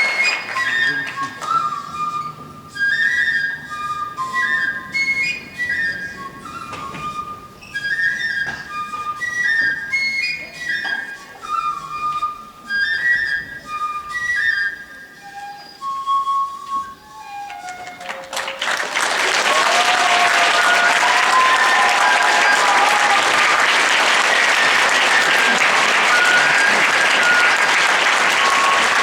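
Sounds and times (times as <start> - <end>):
flute melody: 0.0 - 29.0.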